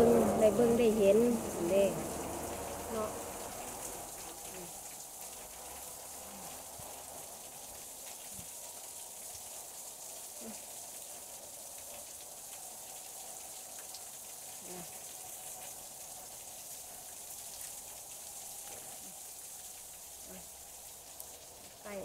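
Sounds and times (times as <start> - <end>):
faint water drips: 0.0 - 22.0
waterfall splashing hiss: 0.0 - 22.0.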